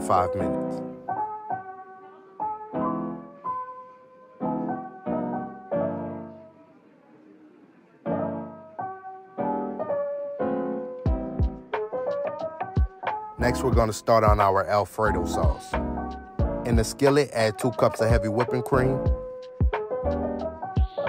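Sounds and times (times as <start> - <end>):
piano music: 0.0 - 7.0, 8.0 - 21.0.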